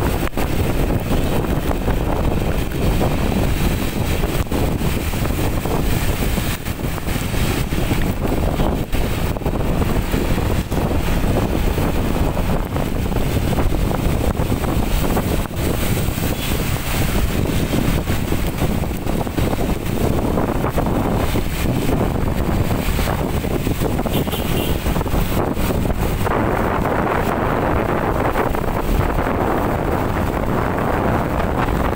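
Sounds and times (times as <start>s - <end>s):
heavy rain hissing: 0.0s - 28.8s
gusty wind buffeting microphone: 0.0s - 31.9s.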